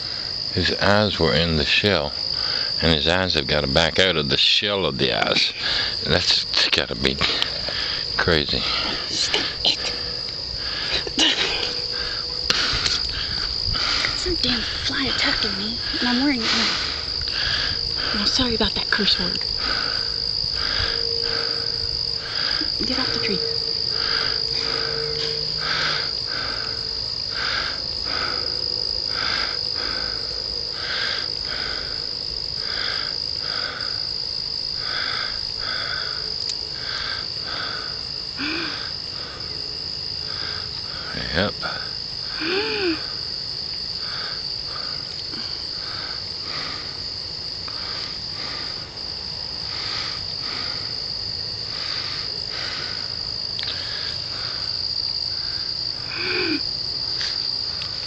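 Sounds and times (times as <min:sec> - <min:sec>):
high-pitched insect trill: 0:00.0 - 0:58.0
pulsing insect chirp: 0:00.0 - 0:58.0.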